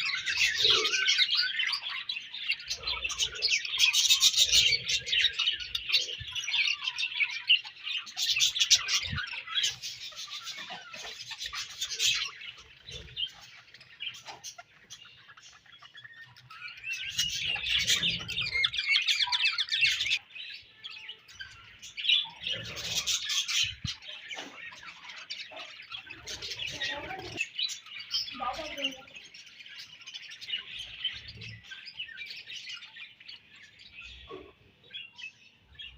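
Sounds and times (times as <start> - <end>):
budgerigars chirping and warbling: 0.0 - 35.9.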